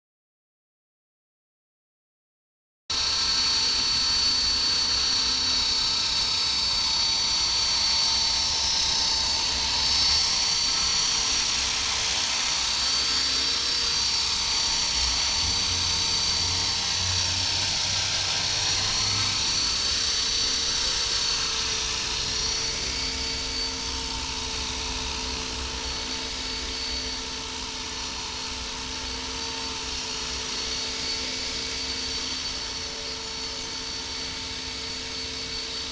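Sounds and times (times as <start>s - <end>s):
rc helicopter motor whine: 2.9s - 35.9s
rotor buzz: 2.9s - 35.9s.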